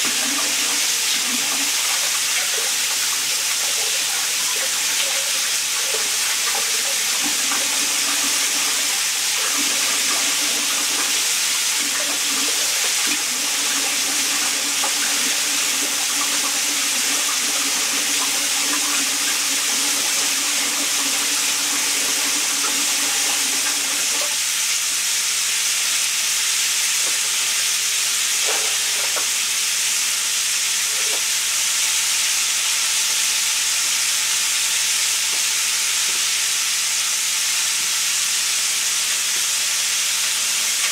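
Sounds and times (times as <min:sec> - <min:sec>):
oil sizzling while deep-frying: 0:00.0 - 0:40.9.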